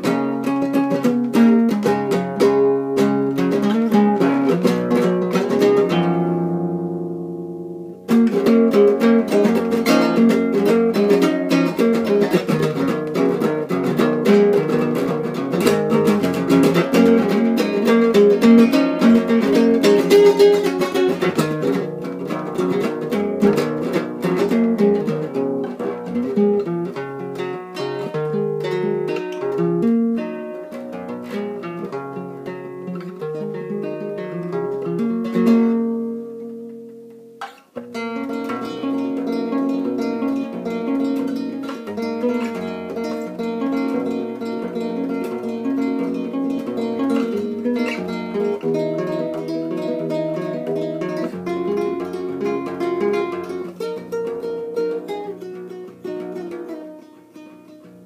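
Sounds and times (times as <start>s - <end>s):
fingerstyle classical guitar: 0.0s - 58.0s.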